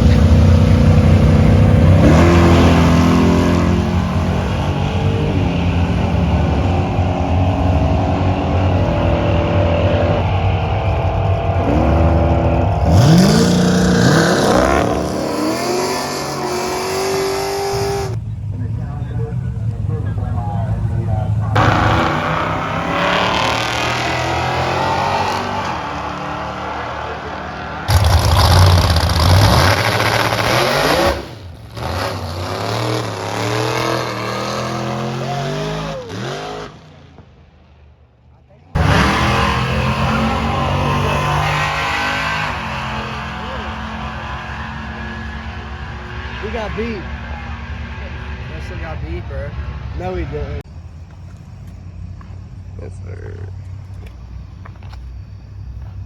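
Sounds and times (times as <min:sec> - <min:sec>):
car engine running and revving: 0:00.0 - 0:37.0, 0:38.7 - 0:56.0.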